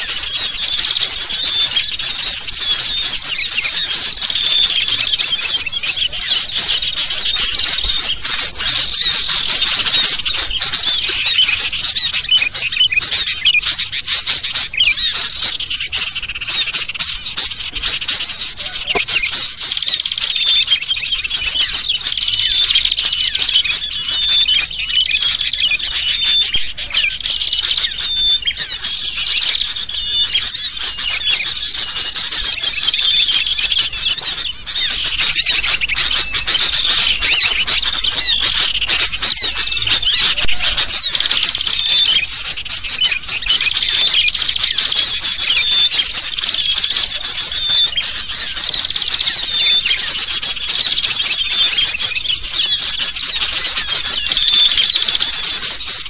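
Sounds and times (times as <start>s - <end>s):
bulbul calls: 0.0s - 56.0s
small birds chirping: 0.0s - 56.0s.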